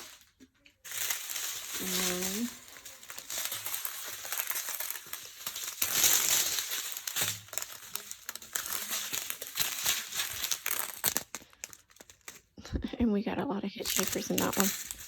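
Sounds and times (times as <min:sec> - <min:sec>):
plastic bags crinkling: 0:00.0 - 0:12.6, 0:13.8 - 0:15.0.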